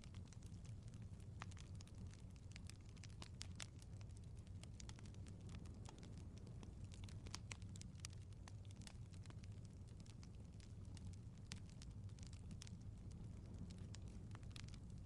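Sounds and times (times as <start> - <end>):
fire crackling and popping: 0.0 - 15.0
low steady rumble: 0.0 - 15.0.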